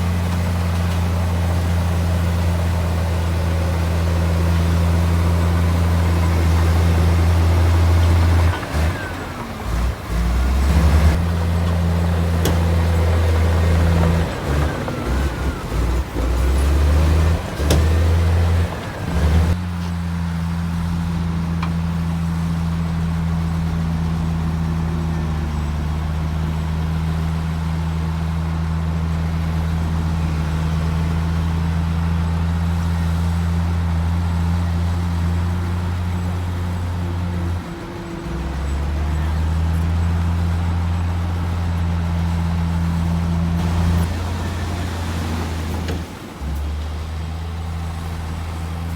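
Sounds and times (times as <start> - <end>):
diesel engine droning under load: 0.0 - 48.9.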